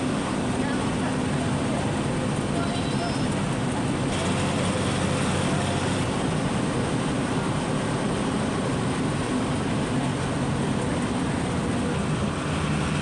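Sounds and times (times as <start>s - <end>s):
bus engine drone: 0.0s - 13.0s
tyres hissing on road: 0.0s - 13.0s.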